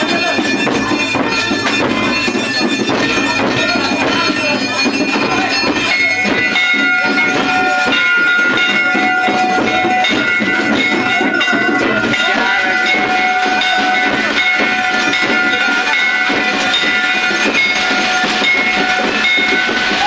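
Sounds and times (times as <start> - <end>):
rapid clattering beats: 0.0 - 20.0
steady high tones held: 0.0 - 20.0.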